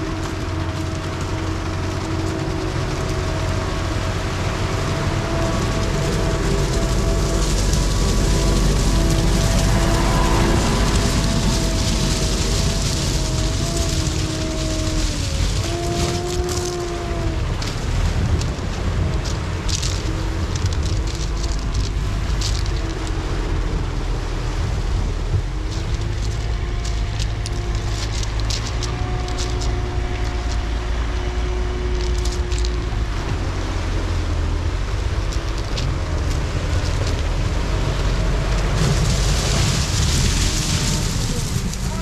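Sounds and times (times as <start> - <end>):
diesel engine droning: 0.0 - 42.0
water splashing: 0.0 - 42.0
wind noise on microphone: 0.0 - 42.0.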